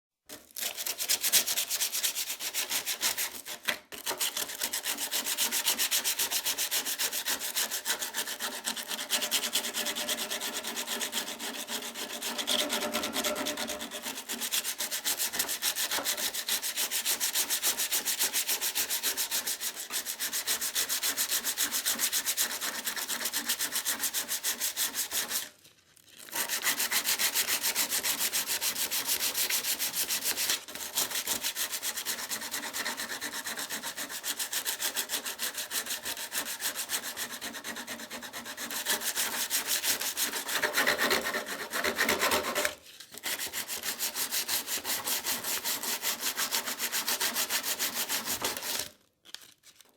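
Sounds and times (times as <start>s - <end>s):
sandpaper scratching on metal: 0.6s - 25.5s, 26.3s - 48.9s.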